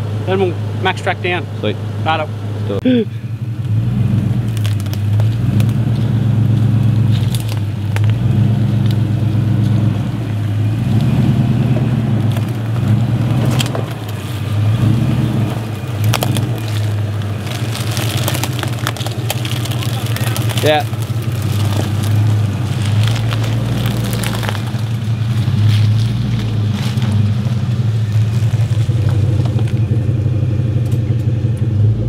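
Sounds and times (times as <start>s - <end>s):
car engine at low revs: 0.0s - 32.0s
rocks crunching under tyres: 3.6s - 31.7s.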